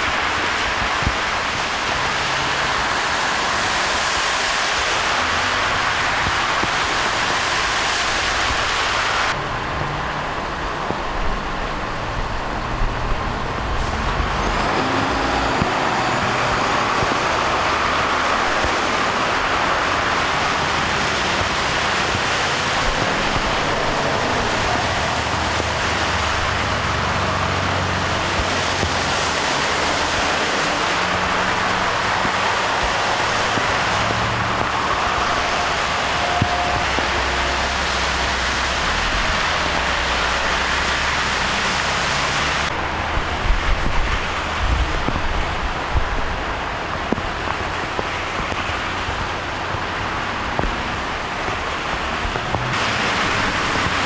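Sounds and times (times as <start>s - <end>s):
tyres hissing through deep water: 0.0s - 54.0s
vehicle engines running: 0.0s - 54.0s.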